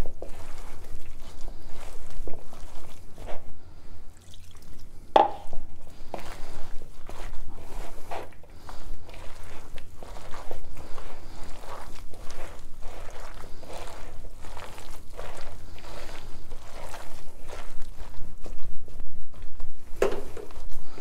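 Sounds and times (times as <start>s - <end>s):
hand squelching thick batter: 0.0s - 21.0s.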